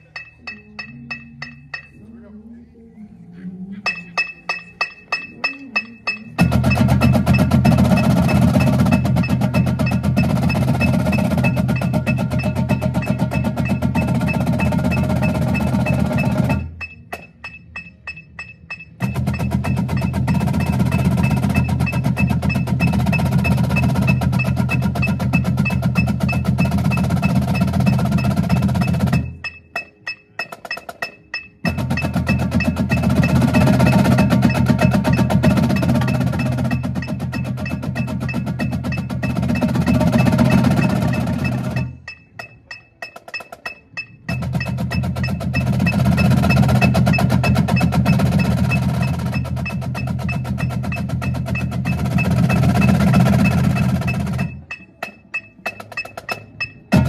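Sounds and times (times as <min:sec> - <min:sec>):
marching drumline playing: 0:04.1 - 0:57.0.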